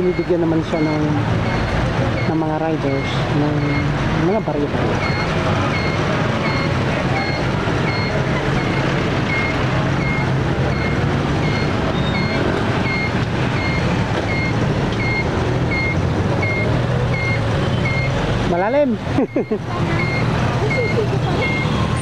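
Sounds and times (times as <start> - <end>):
engine noise: 0.0 - 22.0
repeating electronic beep: 0.0 - 22.0
street traffic: 0.0 - 22.0.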